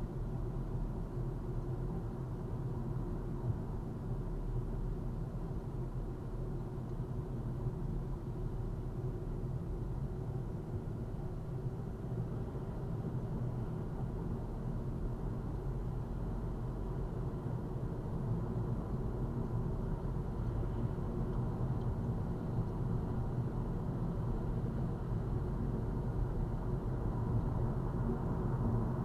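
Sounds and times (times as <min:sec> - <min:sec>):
car cabin engine and road noise: 0:00.0 - 0:29.0.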